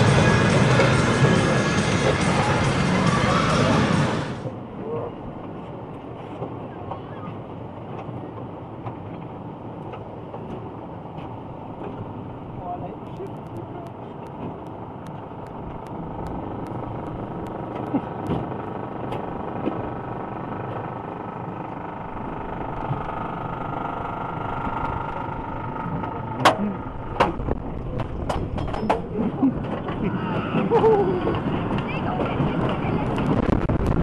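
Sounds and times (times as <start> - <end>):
whine: 0.0 - 5.2, 11.9 - 34.0
roller coaster lift rumble: 0.0 - 34.0.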